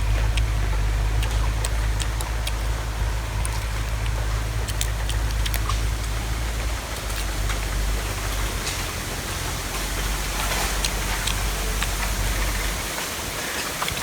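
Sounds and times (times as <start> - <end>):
faint clicks: 0.1 - 14.0.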